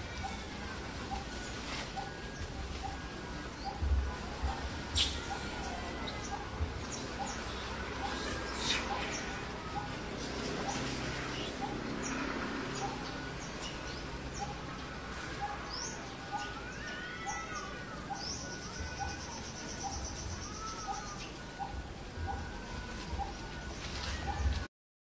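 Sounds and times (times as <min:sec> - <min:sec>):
bird trill: 0:00.0 - 0:24.6
birds chirping: 0:00.0 - 0:24.7.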